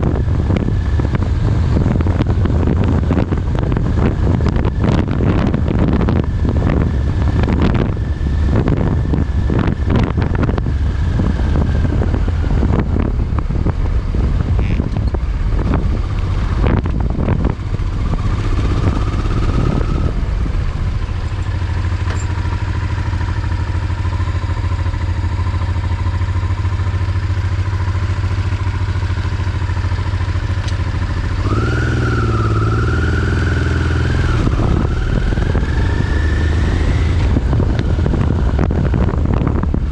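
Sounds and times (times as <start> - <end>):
motorcycle engine running: 0.0 - 39.9
wind buffeting: 0.0 - 39.9.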